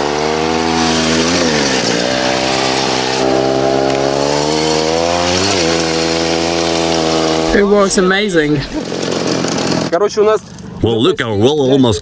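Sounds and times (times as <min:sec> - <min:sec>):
two-stroke engine revving: 0:00.0 - 0:10.8.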